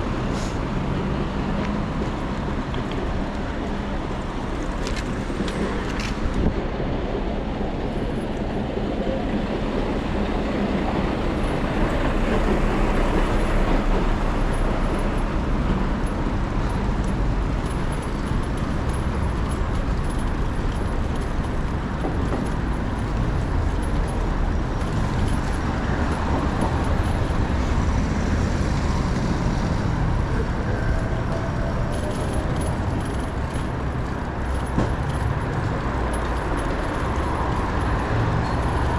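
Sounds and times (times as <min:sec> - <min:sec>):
cars passing: 0:00.0 - 0:38.9.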